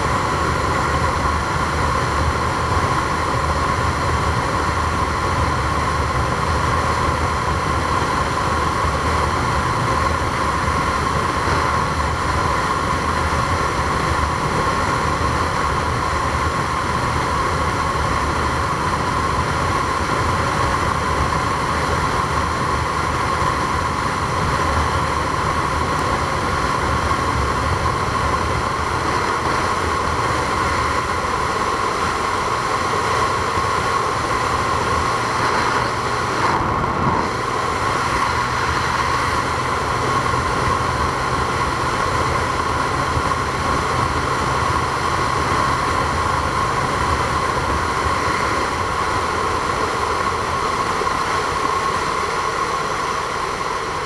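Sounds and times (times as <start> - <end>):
vehicle running drone: 0.0 - 54.0.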